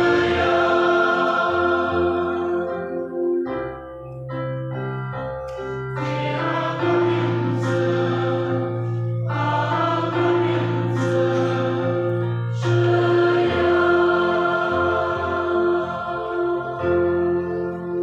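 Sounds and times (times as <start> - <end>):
choir singing a hymn: 0.0 - 3.9, 5.5 - 18.0
keyboard accompaniment: 0.0 - 18.0.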